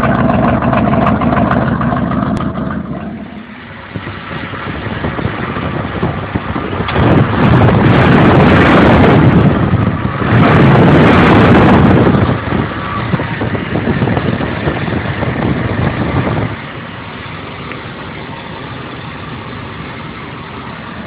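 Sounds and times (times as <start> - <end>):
truck engine running and idling: 0.0 - 21.0.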